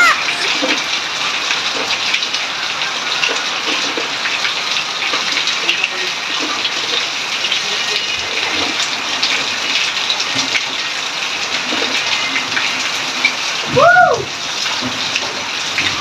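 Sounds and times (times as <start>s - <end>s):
hose filling a basin: 0.0s - 16.0s
steady rain: 0.0s - 16.0s
water splashing into washtubs: 0.0s - 16.0s.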